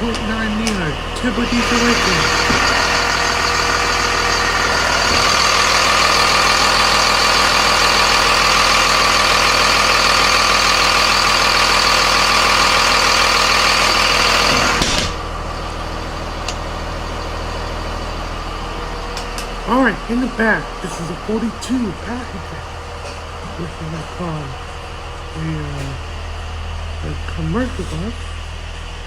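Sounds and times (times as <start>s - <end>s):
diesel bus engine idling: 0.0s - 29.0s
high steady whine: 0.0s - 29.0s
low steady hum: 0.0s - 29.0s.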